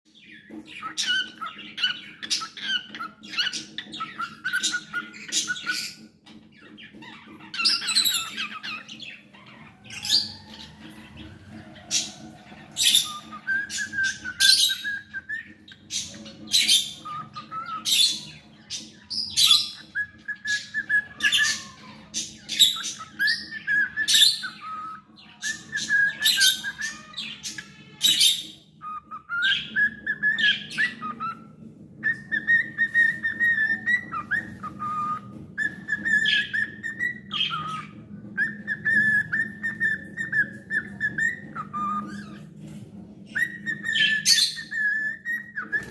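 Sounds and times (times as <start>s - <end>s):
cockatiel chirping and whistling: 0.2s - 42.7s, 43.3s - 45.9s.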